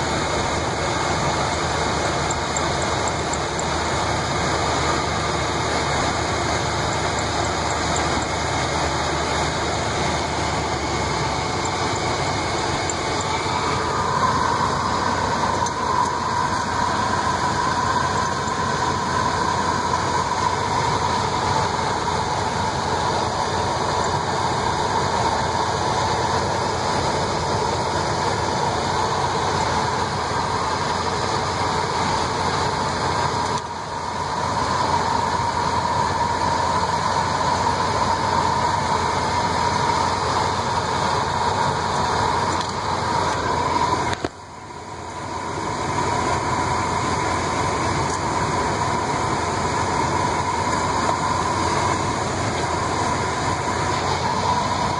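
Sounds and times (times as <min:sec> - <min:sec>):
car engine idling: 0:00.0 - 0:54.9
steady whir: 0:00.0 - 0:54.9.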